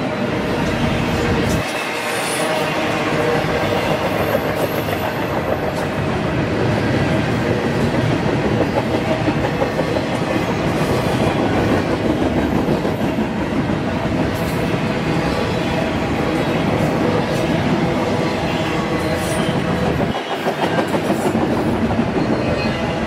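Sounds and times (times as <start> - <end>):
freight train wheels clattering: 0.5 - 23.0.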